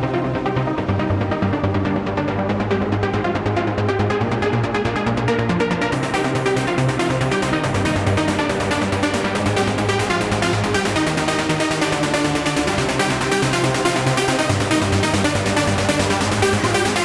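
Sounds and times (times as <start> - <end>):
electronic trance music: 0.0 - 17.0.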